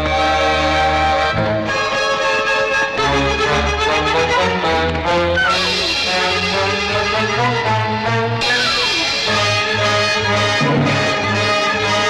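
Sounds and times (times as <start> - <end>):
instrumental film score music: 0.0 - 12.0.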